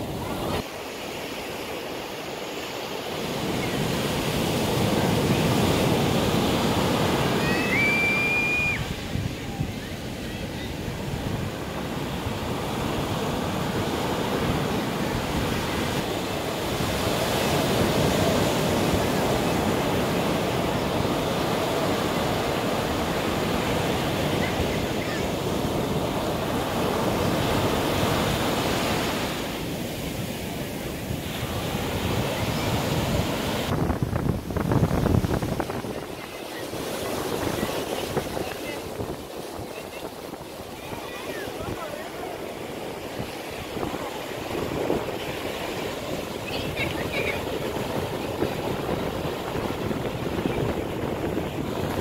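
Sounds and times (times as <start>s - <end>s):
sea waves breaking on beach: 0.0s - 52.0s
wind rumbling on microphone: 3.2s - 52.0s.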